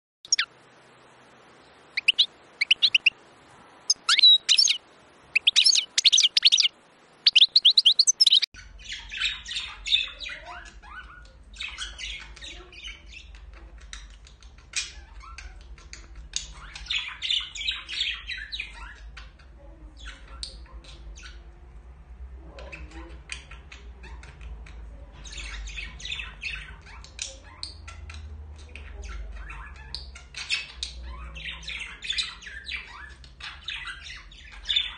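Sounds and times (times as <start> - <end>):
budgerigars chattering warble: 0.3 - 0.5, 1.9 - 3.1, 3.9 - 21.4, 25.2 - 34.9
budgerigars chirping: 0.3 - 0.5, 1.9 - 3.1, 3.8 - 13.4, 14.0 - 19.4, 22.7 - 34.9.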